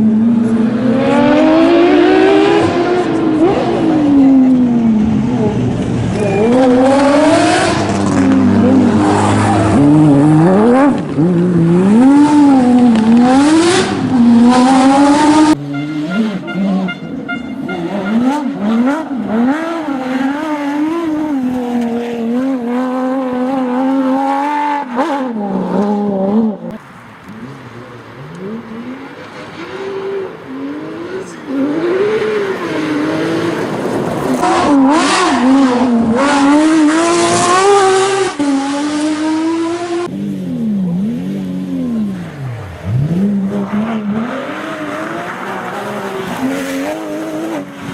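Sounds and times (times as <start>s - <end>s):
sports car engines revving: 0.0s - 47.9s.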